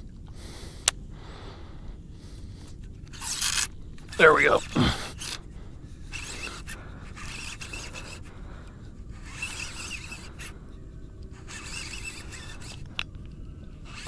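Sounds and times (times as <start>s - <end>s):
fishing reel cranking: 2.7s - 14.0s.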